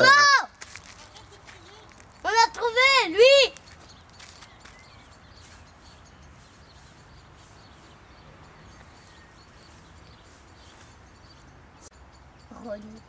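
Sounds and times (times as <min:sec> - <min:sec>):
distant bird chirps: 0:01.0 - 0:13.0.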